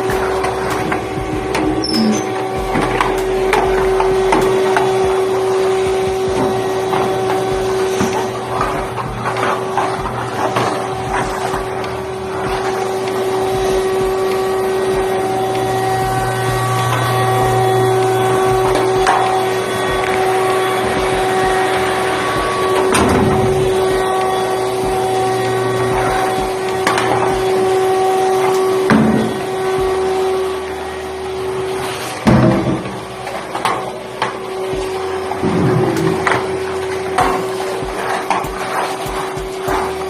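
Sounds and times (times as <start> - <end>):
vacuum cleaner running: 0.0 - 40.0.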